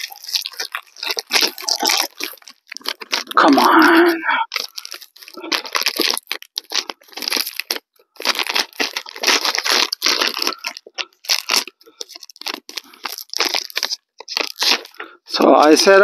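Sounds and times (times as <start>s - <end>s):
wrapping crinkling and tearing: 0.0s - 16.0s.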